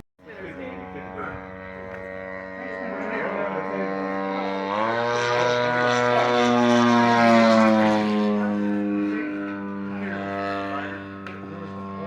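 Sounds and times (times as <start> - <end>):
propeller airplane passing overhead: 0.2 - 12.0.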